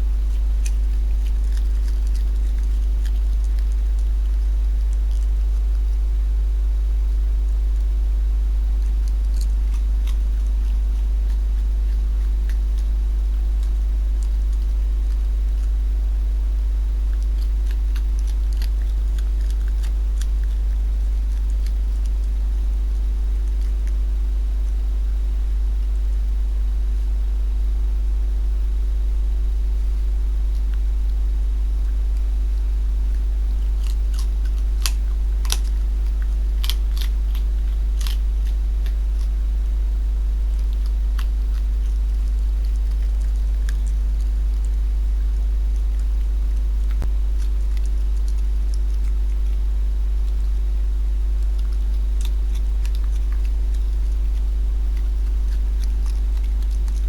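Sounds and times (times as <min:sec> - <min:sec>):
fox chewing and crunching food: 0:00.0 - 0:57.0
low electrical hum: 0:00.0 - 0:57.0.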